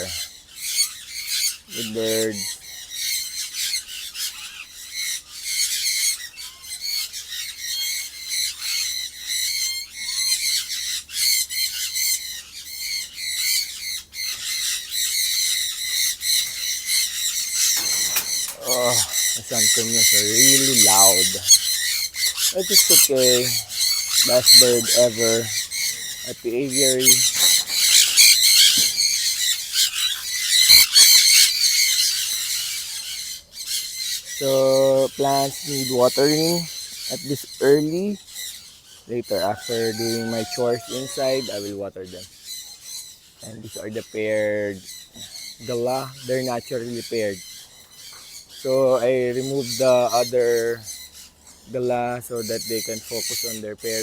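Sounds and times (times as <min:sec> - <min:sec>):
parrots screeching: 0:00.0 - 0:54.0.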